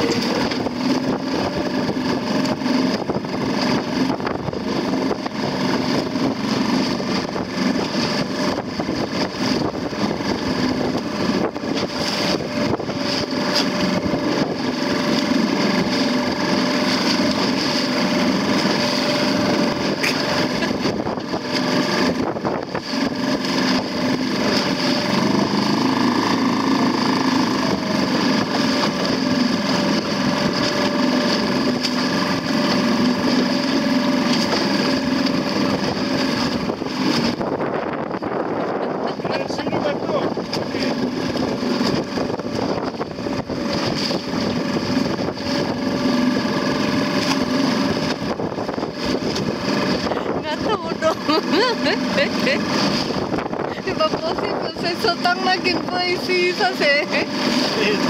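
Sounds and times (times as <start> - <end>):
choppy water rushing: 0.0 - 58.0
outboard motor running: 0.0 - 58.0
wind: 0.0 - 58.0.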